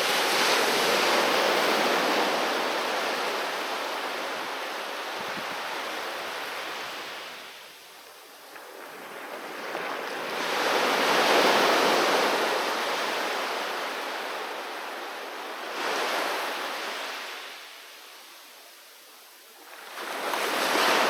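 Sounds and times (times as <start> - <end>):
sea waves washing onto shore: 0.0 - 18.5, 19.6 - 21.0.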